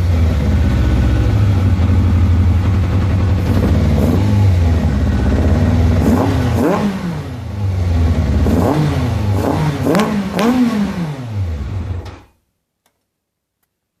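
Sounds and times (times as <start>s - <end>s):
motorcycle engine revving: 0.0s - 12.2s.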